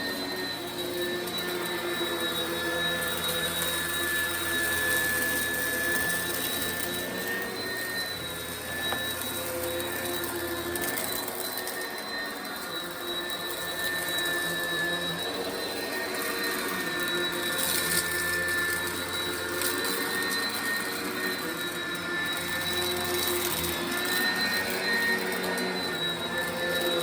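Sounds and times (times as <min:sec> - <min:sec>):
vacuum cleaner motor whine: 0:00.0 - 0:27.0.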